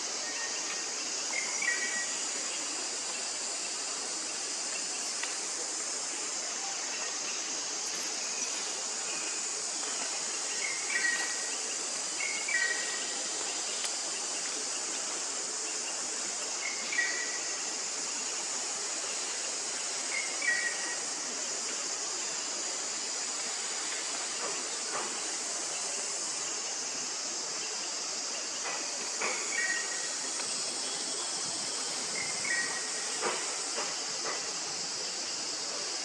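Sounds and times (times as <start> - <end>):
forest insects chorus: 0.0 - 36.0.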